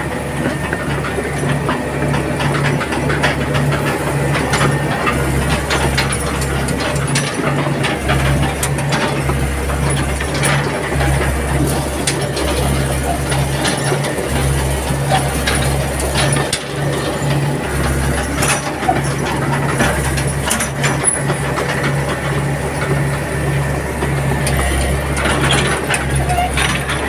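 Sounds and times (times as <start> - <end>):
diesel engine pulsing drone: 0.0 - 27.0
steel tracks clanking: 0.0 - 27.0.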